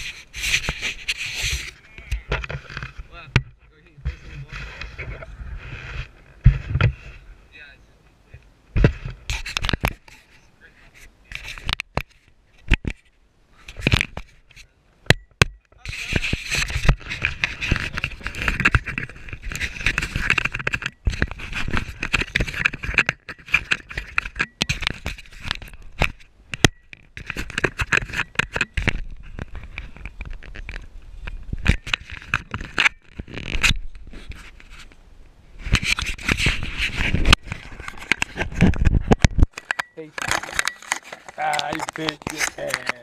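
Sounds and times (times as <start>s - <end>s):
camera handling knocks and rubs: 0.0s - 7.2s, 8.7s - 13.1s, 13.7s - 35.0s, 35.6s - 43.0s.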